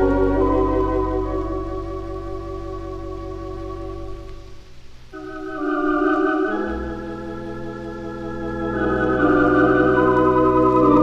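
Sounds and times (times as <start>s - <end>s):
organ chords: 0.0s - 11.0s.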